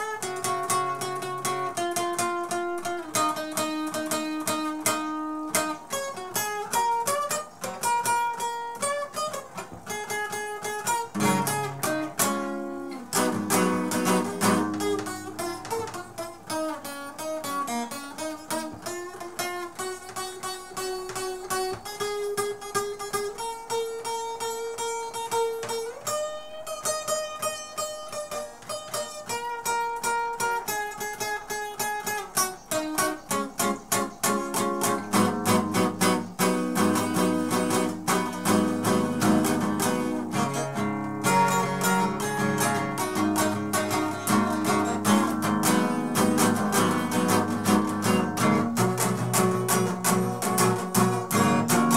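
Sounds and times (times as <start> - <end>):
acoustic guitar chord strumming: 0.0 - 51.9
acoustic guitar picked melody: 0.0 - 51.9.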